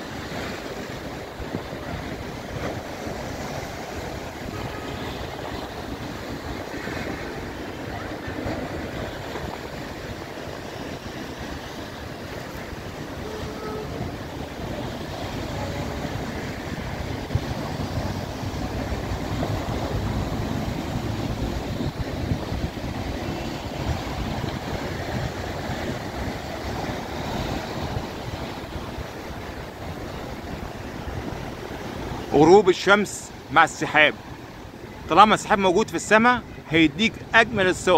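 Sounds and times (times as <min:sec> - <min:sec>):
wind buffeting microphone: 0:00.0 - 0:32.4
waves breaking on rocky shore: 0:00.0 - 0:37.9.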